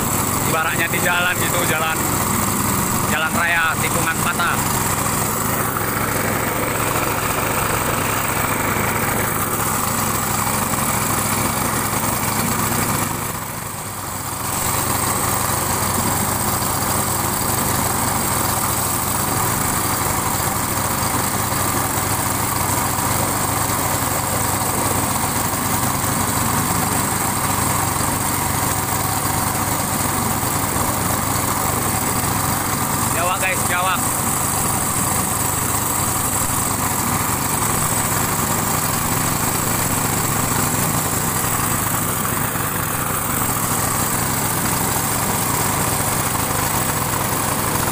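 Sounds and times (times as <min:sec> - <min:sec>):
small boat engine running: 0:00.0 - 0:47.9.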